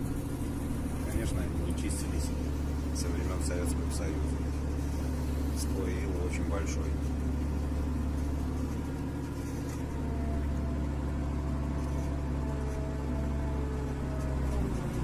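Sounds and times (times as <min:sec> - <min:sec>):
faint high whine: 0:00.0 - 0:15.0
heavy machinery engine running: 0:00.0 - 0:15.0.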